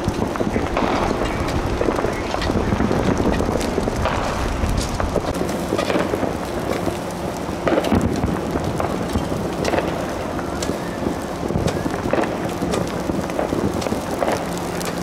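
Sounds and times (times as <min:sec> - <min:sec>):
dry grass crackling fire: 0:00.0 - 0:15.0
low rumble: 0:00.0 - 0:15.0.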